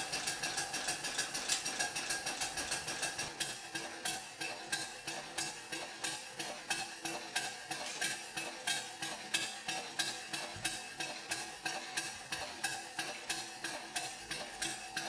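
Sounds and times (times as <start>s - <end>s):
steam engine chuffing: 0.0s - 15.0s.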